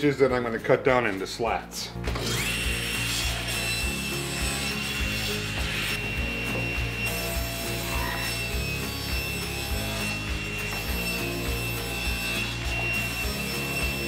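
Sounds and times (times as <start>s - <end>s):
saw ripping plywood: 2.0s - 14.0s
table saw motor whine: 2.1s - 14.0s.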